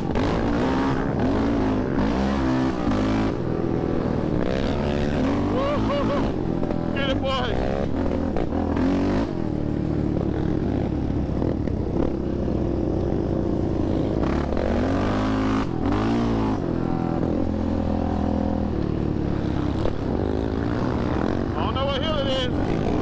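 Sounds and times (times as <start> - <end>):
quad engine running: 0.0 - 23.0.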